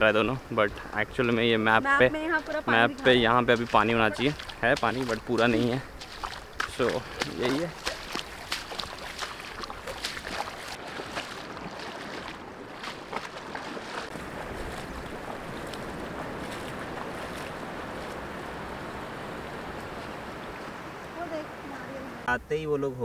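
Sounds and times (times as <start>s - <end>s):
wind buffeting microphone: 0.0s - 22.3s
shallow surf washing: 0.0s - 22.4s.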